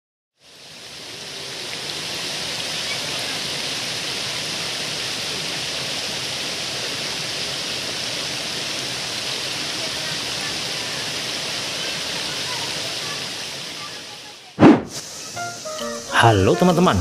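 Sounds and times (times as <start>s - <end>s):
waterfall rushing: 0.5s - 17.0s.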